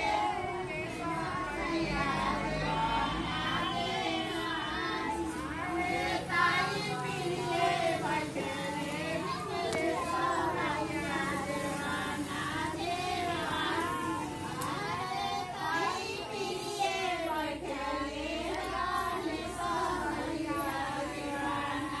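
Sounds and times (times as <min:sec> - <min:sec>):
women singing: 0:00.0 - 0:22.0.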